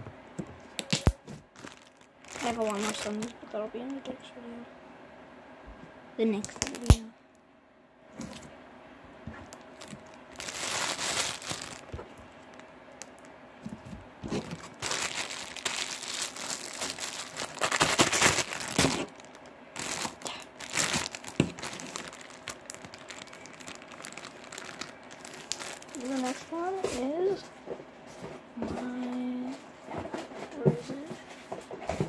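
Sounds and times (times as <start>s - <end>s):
crinkling and rustling objects: 0.4s - 4.3s, 6.4s - 7.1s, 8.1s - 8.6s, 9.2s - 32.0s.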